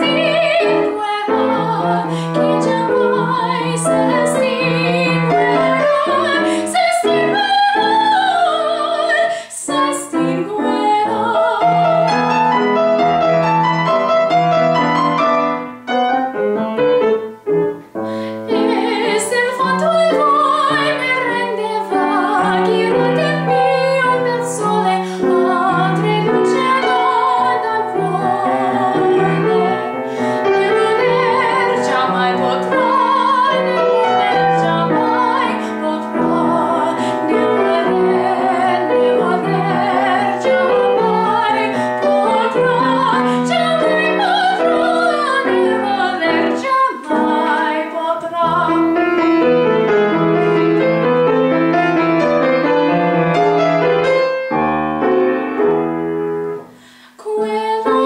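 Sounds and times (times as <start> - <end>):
piano accompaniment: 0.0 - 58.0
woman singing classical aria: 0.0 - 58.0.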